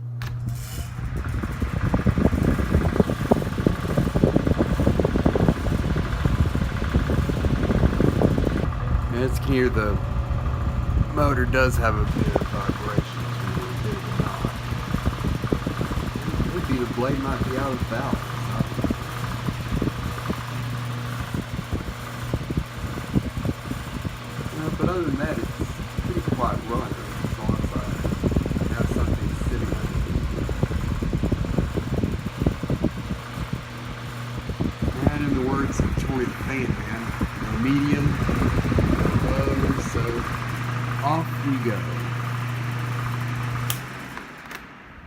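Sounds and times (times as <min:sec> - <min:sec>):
fan rattling vibration: 0:00.0 - 0:45.0
table fan motor hum and air: 0:00.0 - 0:45.0.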